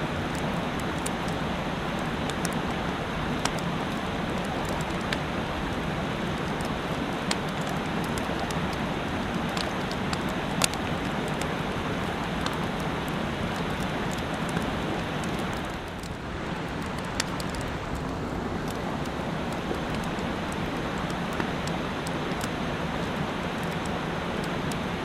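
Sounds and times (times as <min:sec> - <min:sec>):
mountain stream rushing: 0:00.0 - 0:25.0
sharp ticks and pops: 0:02.0 - 0:24.9.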